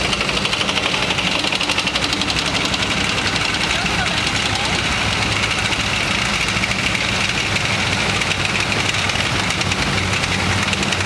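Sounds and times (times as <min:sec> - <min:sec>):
diesel engines droning: 0:00.0 - 0:11.0
tracks clattering on road: 0:00.0 - 0:11.0.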